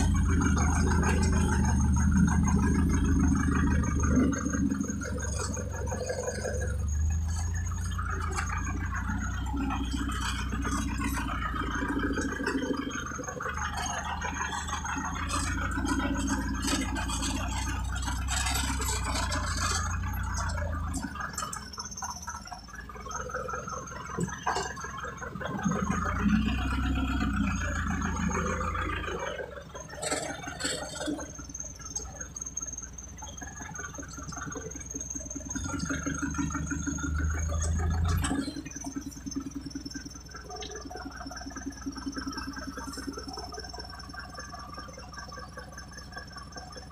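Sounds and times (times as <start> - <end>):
truck engine rumbling: 0.0 - 46.9.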